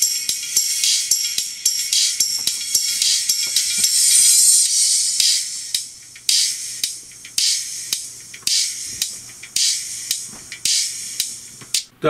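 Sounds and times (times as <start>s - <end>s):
treble-only percussive music: 0.0s - 11.9s.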